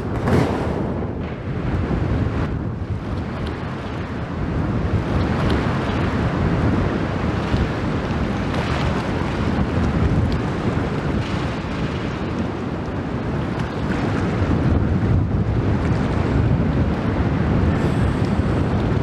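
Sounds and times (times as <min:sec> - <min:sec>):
churning propeller water: 0:00.0 - 0:19.0
wind buffeting microphone: 0:00.0 - 0:19.0.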